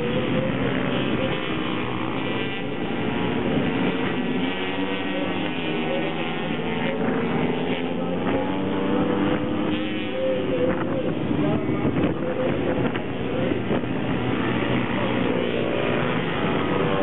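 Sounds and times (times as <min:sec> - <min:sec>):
minibike engines revving: 0:00.0 - 0:17.0.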